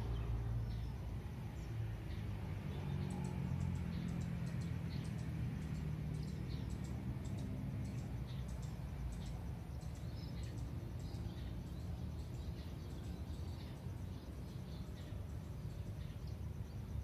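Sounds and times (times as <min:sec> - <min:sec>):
birds chirping: 0:00.0 - 0:17.0
low steady rumble: 0:00.0 - 0:17.0.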